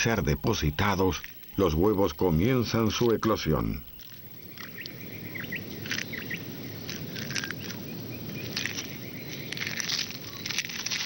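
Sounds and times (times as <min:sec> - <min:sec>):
eggshell scratching and crackling: 0:00.0 - 0:11.0.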